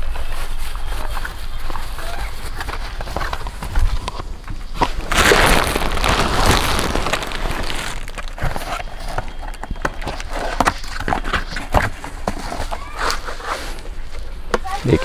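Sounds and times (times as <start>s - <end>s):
plastic wrapping crinkling: 0.0s - 13.8s.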